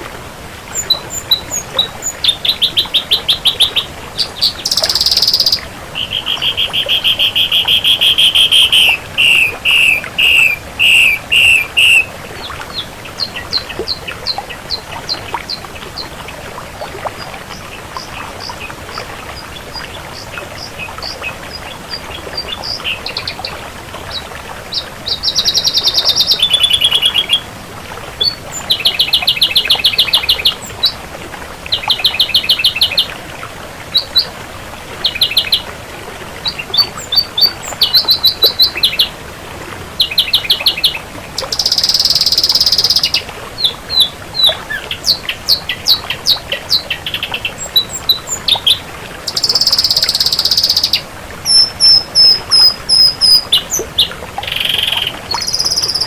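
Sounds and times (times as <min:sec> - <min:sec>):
bird singing notes and trills: 0:00.7 - 0:16.1, 0:17.5 - 0:23.6, 0:24.7 - 0:27.5, 0:28.2 - 0:31.0, 0:31.7 - 0:33.1, 0:36.4 - 0:39.1, 0:40.0 - 0:56.0.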